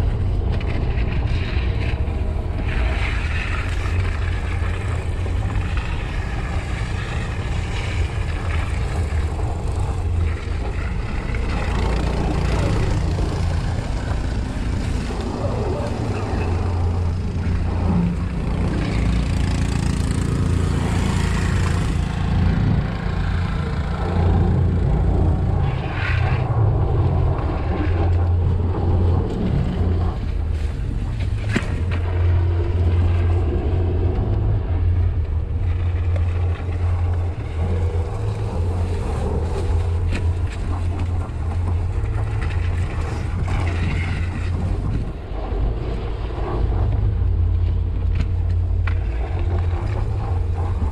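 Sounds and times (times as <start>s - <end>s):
vehicle droning: 0.0s - 50.9s
wind on microphone: 0.0s - 50.9s.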